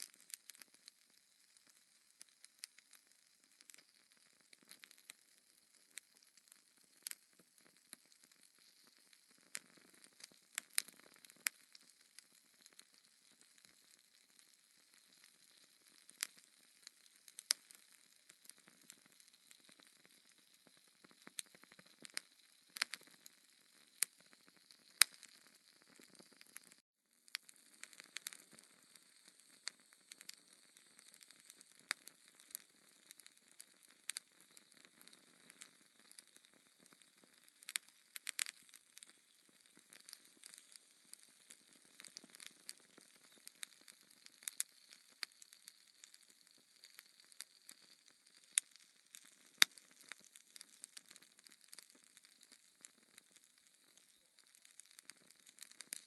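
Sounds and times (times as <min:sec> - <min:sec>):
log fire crackling: 0:00.0 - 0:56.0.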